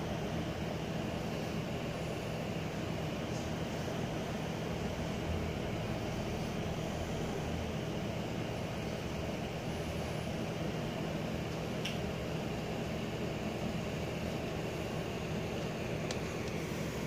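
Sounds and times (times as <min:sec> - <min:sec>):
aquarium filter hum and hiss: 0:00.0 - 0:17.0.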